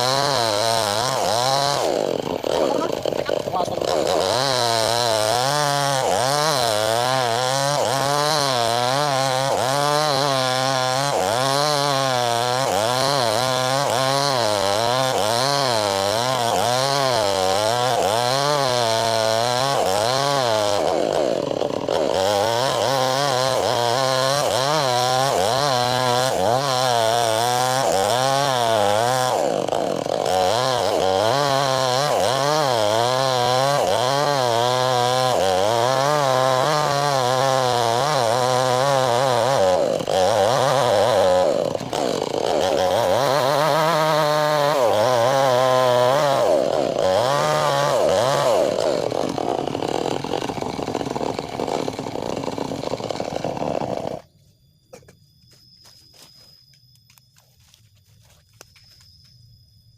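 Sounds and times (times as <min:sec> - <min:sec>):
chainsaw cutting through log: 0:00.0 - 0:54.3.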